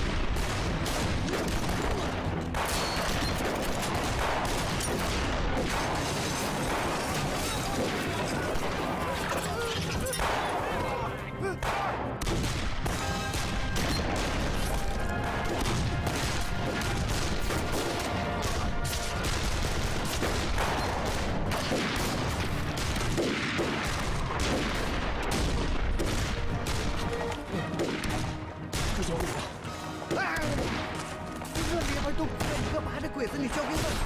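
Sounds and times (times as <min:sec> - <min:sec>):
rifles and machine guns firing: 0:00.0 - 0:09.4, 0:11.6 - 0:29.7, 0:30.3 - 0:34.0.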